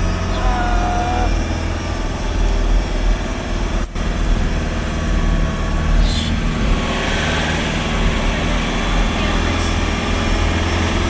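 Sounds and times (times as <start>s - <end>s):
car engine running under load: 0.0s - 11.0s.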